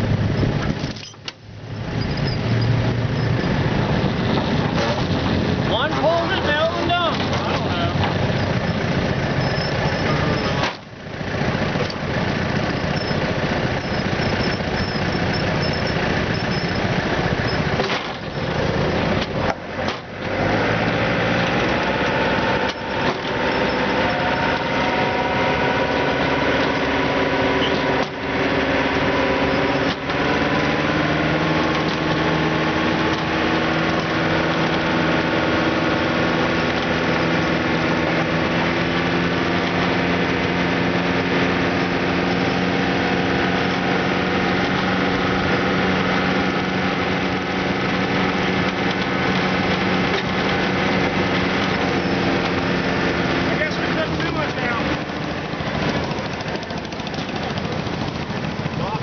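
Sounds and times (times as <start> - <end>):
garden tractor engine revving hard: 1.6 - 59.0.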